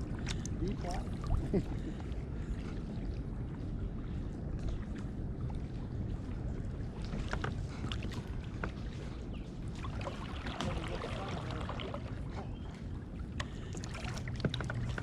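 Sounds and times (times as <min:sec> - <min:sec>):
paddle splashes and drips: 0:00.0 - 0:15.0.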